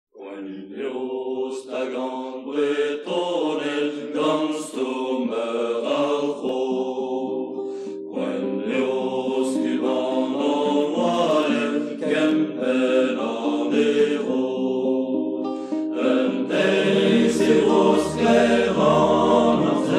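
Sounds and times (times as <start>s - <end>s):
group of voices singing: 0.2s - 19.9s.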